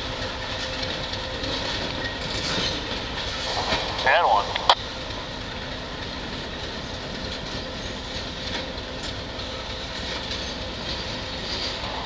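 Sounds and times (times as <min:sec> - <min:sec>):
railroad cars rumbling on track: 0:00.0 - 0:12.0.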